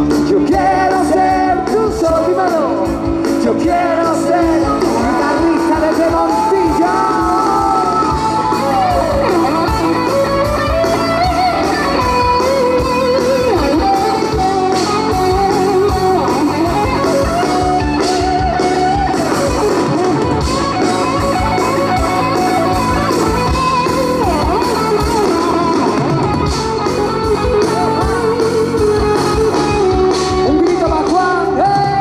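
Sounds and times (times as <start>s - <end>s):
electric guitar lead: 0.0s - 32.0s
live band music: 0.0s - 32.0s.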